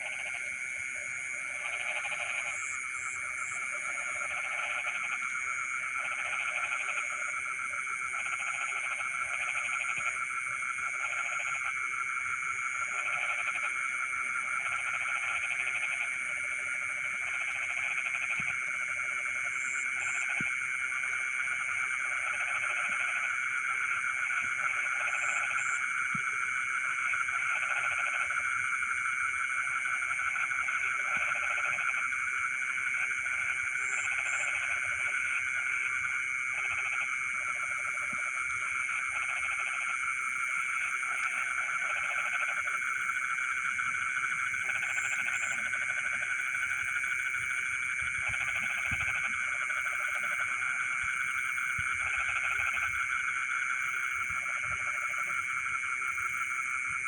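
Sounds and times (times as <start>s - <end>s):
high-pitched frog chorus: 0.0s - 57.0s
low frog croaking: 0.0s - 57.0s.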